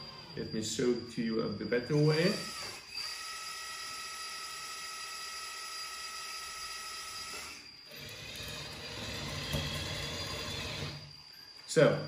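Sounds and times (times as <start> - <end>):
hydraulic pump whining: 0.0 - 0.9, 1.7 - 11.3.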